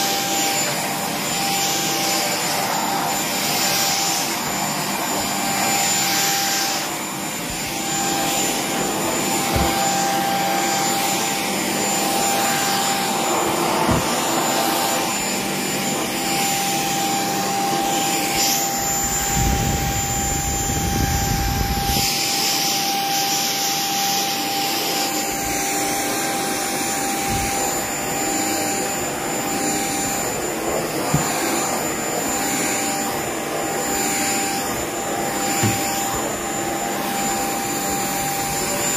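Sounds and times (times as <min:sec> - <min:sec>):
stick vacuum motor whining: 0:00.0 - 0:38.9.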